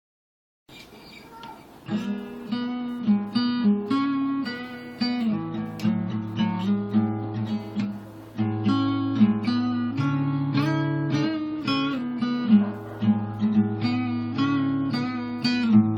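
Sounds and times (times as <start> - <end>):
acoustic guitar strumming: 1.1 - 15.9.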